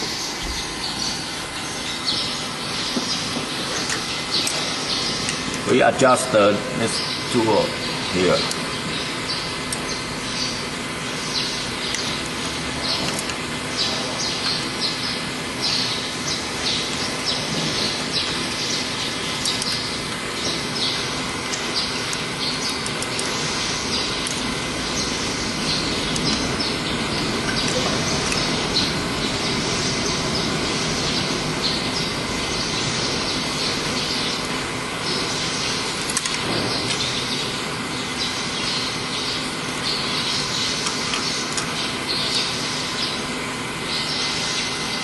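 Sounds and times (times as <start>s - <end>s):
machinery hum: 0.0s - 45.0s.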